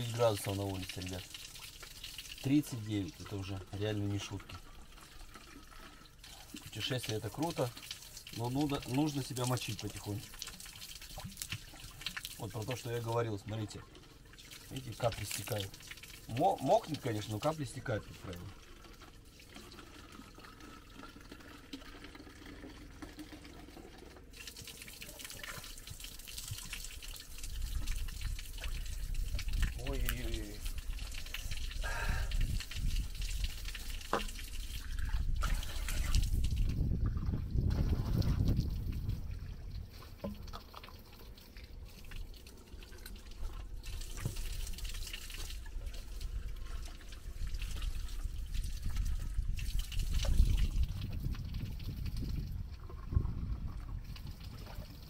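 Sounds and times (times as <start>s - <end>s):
small splashes: 0.0s - 53.1s
water running and dripping: 0.0s - 55.0s.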